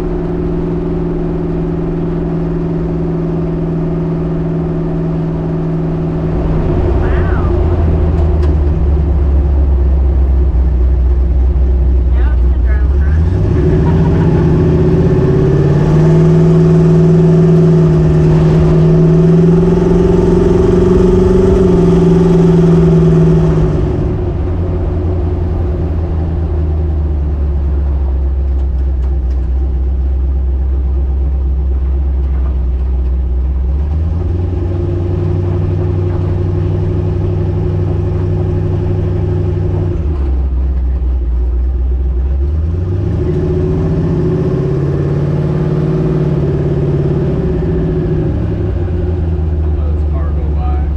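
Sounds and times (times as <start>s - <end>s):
truck engine droning: 0.0s - 50.9s.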